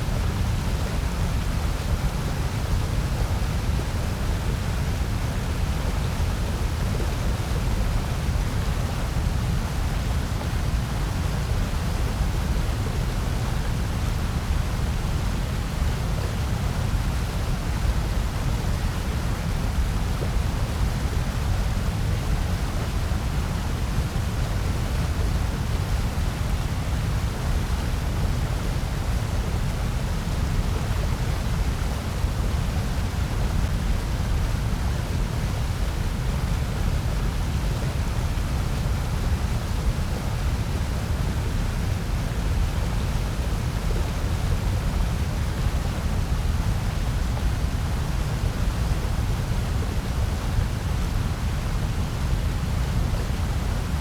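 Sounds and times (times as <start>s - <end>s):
steady rushing noise with low rumble: 0.0s - 54.0s.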